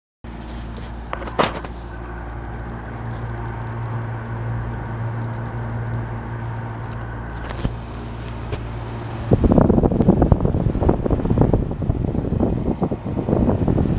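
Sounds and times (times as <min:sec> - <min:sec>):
air conditioner blower airflow: 0:00.3 - 0:13.9
low electrical hum: 0:00.3 - 0:13.9.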